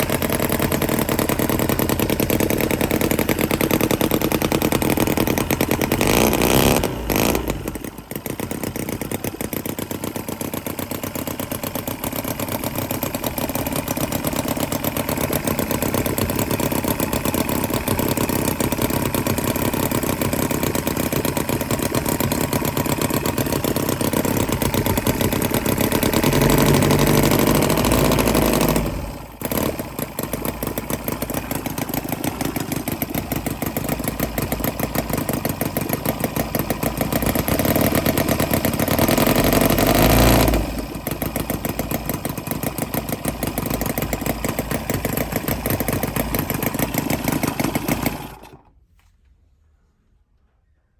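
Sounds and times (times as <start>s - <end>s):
model engine running: 0.0s - 48.7s.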